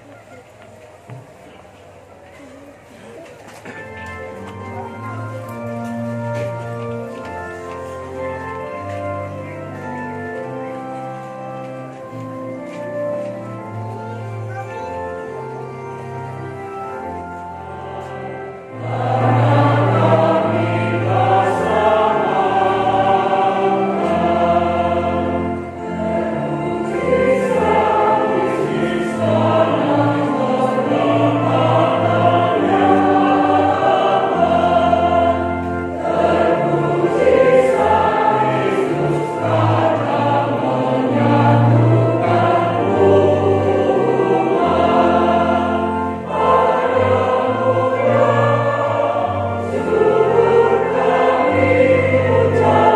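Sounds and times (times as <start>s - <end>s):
keyboard accompaniment: 0.0s - 52.9s
choir singing a hymn: 4.3s - 52.9s.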